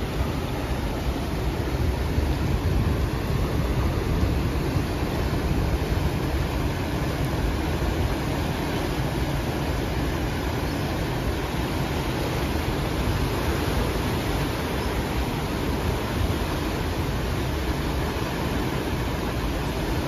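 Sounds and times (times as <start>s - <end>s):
ocean surf washing over rocks: 0.0s - 20.0s.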